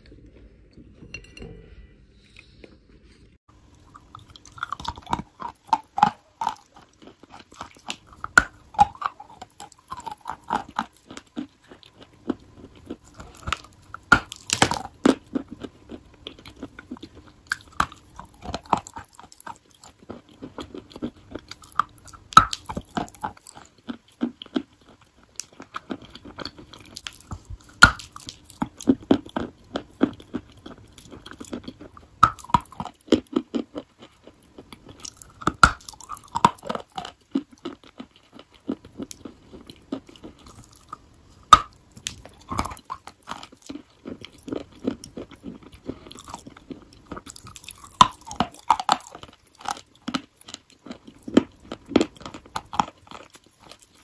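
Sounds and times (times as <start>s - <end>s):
crunchy chewing: 3.7s - 54.0s.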